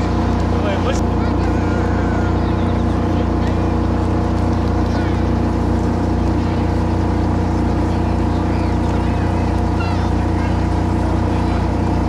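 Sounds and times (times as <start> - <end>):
faint crowd voices: 0.0 - 12.0
steady engine drone: 0.0 - 12.0.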